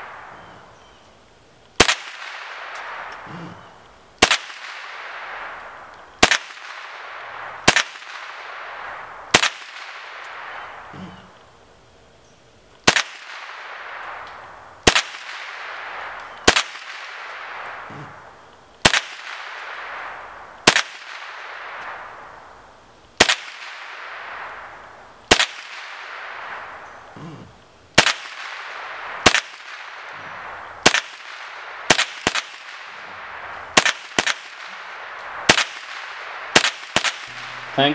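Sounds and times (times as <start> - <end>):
rifle shots with echo: 1.8 - 10.9, 12.8 - 22.5, 23.2 - 27.2, 28.0 - 37.9.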